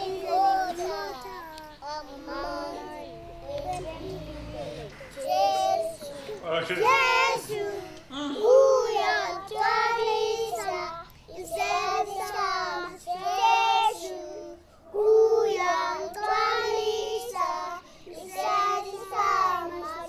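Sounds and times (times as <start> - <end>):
young child singing: 0.0 - 20.0.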